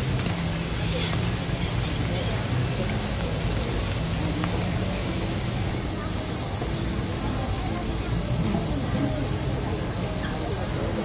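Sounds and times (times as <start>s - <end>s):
faint voices: 0.0s - 11.0s
food sizzling on griddle: 0.0s - 11.0s.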